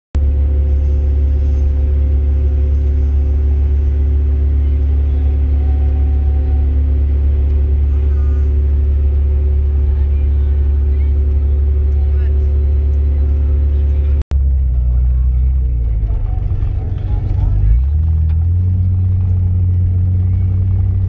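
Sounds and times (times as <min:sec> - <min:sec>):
engine and road noise drone: 0:00.2 - 0:21.0.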